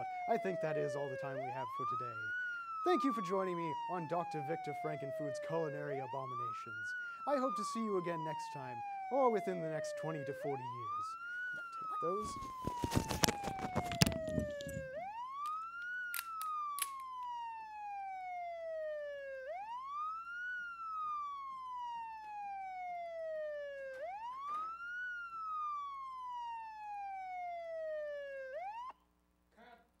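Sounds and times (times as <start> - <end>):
siren wailing: 0.0 - 29.0.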